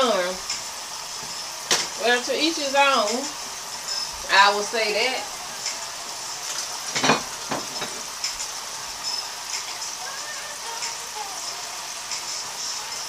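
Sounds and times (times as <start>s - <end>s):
fish sizzling in a skillet: 0.0s - 13.0s.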